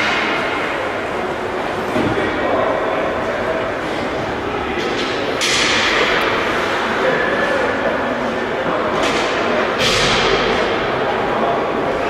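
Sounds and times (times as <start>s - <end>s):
game noise in large hall: 0.0s - 12.0s.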